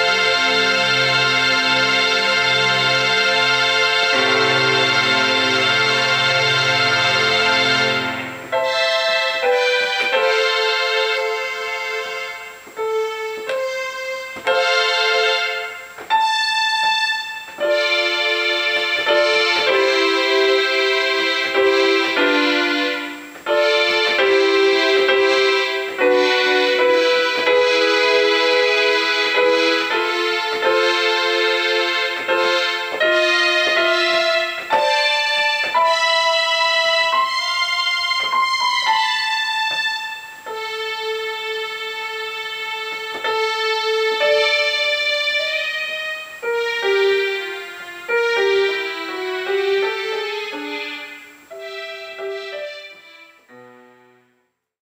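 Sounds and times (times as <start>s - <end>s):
electric piano melody over chords: 0.0s - 54.4s.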